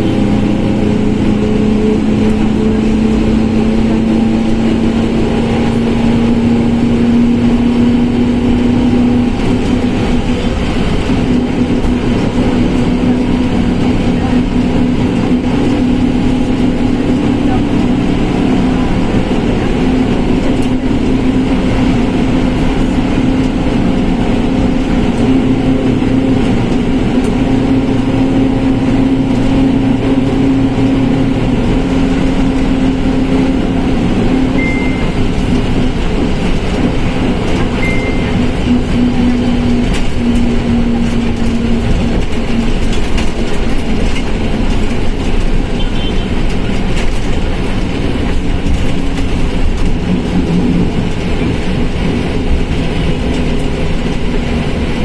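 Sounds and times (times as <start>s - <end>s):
transmission humming drone: 0.0s - 46.2s
bus engine and road rumble: 0.0s - 55.0s.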